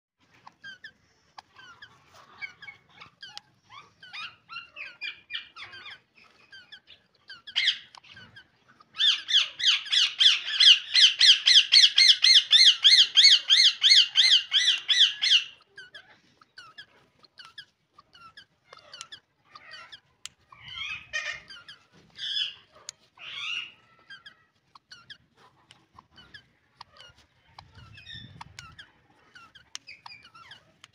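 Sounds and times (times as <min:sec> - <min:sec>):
parakeets squeaky chatter: 0:00.2 - 0:30.9
rapid repeated parakeet calls: 0:00.2 - 0:30.9.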